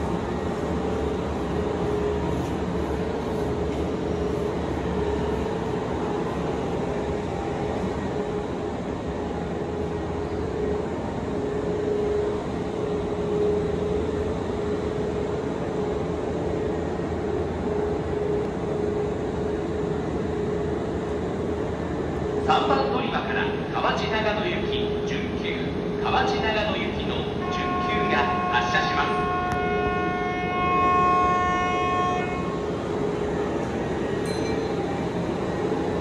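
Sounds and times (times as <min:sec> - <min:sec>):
electric train humming: 0:00.0 - 0:36.0.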